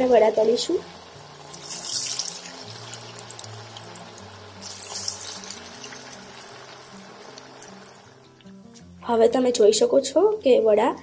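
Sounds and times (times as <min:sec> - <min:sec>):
deep-frying sizzle in oil: 0:00.0 - 0:10.3.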